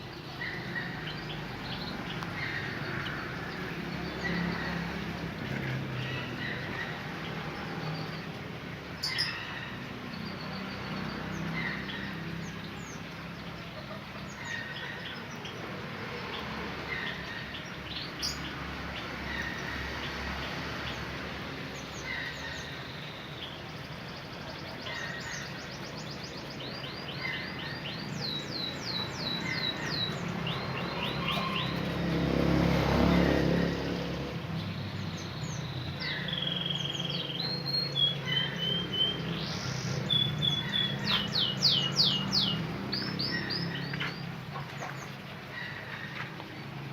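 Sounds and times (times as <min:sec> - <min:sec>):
canaries chirping and singing: 0:00.1 - 0:08.3, 0:08.9 - 0:46.8.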